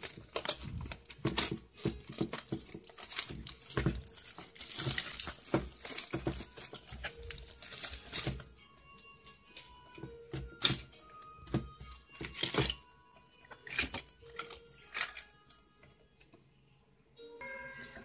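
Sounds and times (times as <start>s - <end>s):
plastic film crinkling and tearing: 0.0s - 15.6s.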